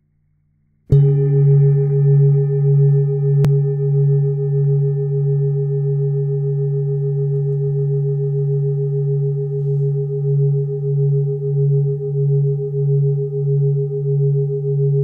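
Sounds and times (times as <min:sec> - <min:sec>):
singing bowl humming: 0:00.9 - 0:15.0.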